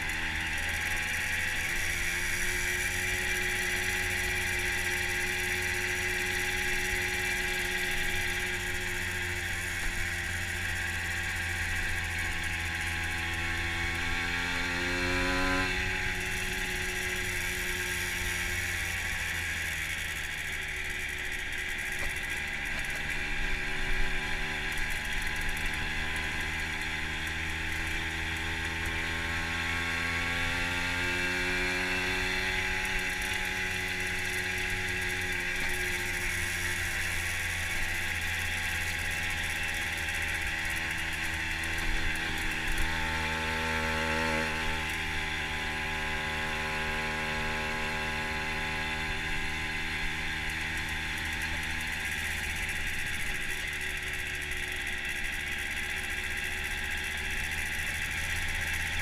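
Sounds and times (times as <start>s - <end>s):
moped engine running: 0.0s - 59.0s.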